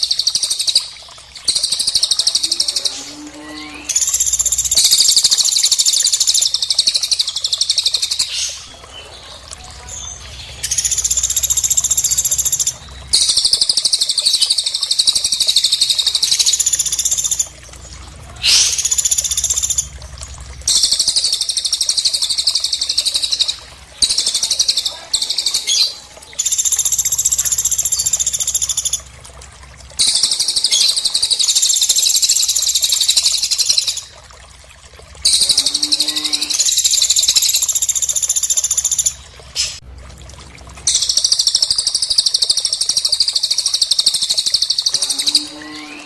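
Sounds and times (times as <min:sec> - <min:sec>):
songbirds trilling: 0:00.0 - 0:29.2, 0:30.0 - 0:34.2, 0:35.2 - 0:39.8, 0:40.8 - 0:46.0.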